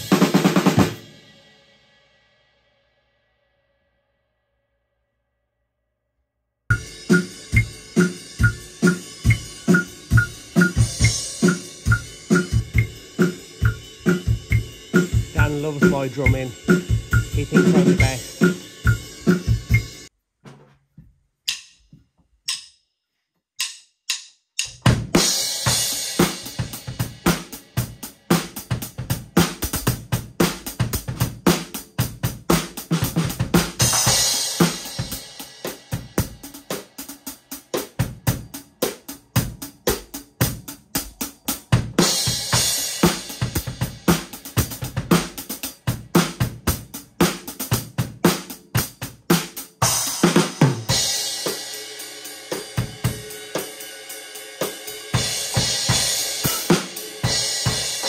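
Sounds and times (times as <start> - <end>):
drum kit beat: 0.0 - 1.4, 6.7 - 20.6, 21.5 - 21.9, 22.5 - 22.8, 23.6 - 58.0.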